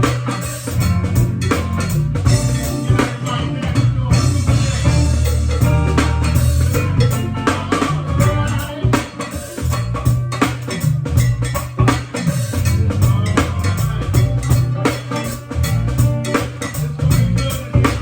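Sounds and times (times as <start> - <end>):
bass line: 0.0 - 18.0
drum kit: 0.0 - 18.0
guitar: 0.0 - 18.0.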